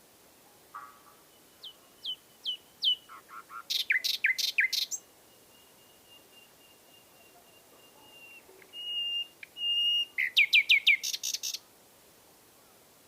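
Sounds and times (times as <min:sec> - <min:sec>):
nightingale singing: 0:00.8 - 0:11.7.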